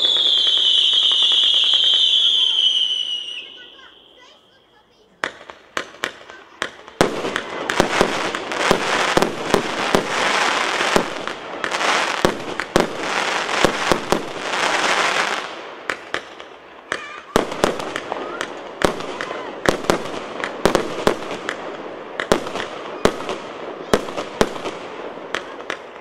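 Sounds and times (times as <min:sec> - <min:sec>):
fireworks launching and bursting: 0:00.0 - 0:26.0.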